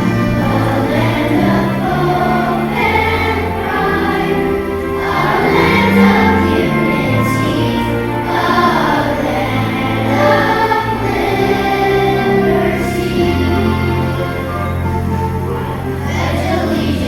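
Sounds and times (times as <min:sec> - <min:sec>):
choir singing held notes: 0:00.0 - 0:17.0
instrumental accompaniment: 0:00.0 - 0:17.0.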